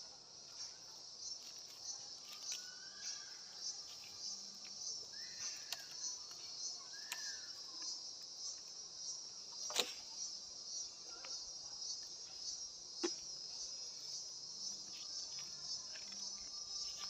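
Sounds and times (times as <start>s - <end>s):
insects chirping chorus: 0.0s - 17.0s.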